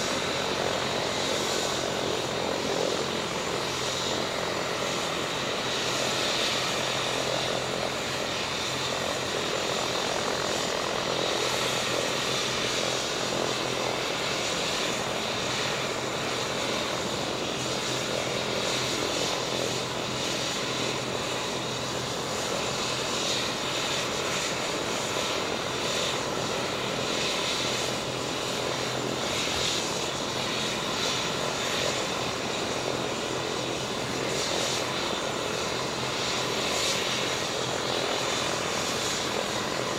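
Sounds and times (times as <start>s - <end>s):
helicopter engines droning: 0.0s - 39.9s.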